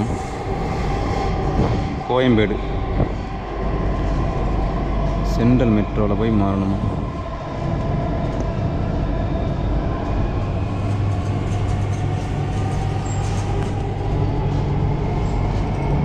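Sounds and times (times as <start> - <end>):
train motors and wheels rumbling: 0.0 - 16.0.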